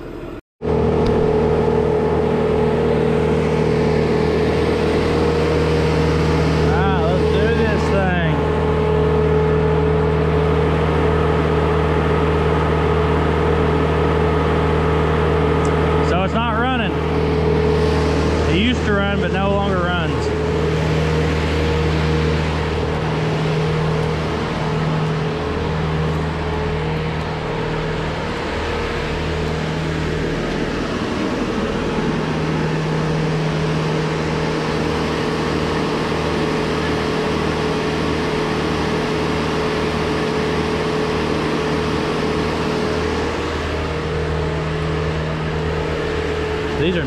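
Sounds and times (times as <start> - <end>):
mechanical hum: 0.0 - 47.0.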